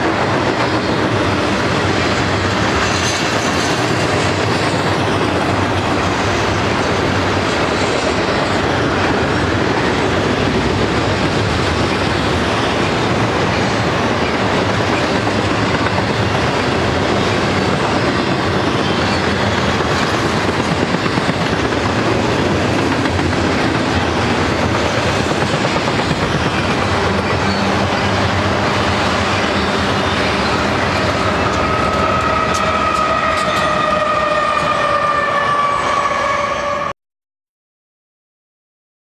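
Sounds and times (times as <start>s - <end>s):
freight train wheels clattering: 0.0s - 34.8s.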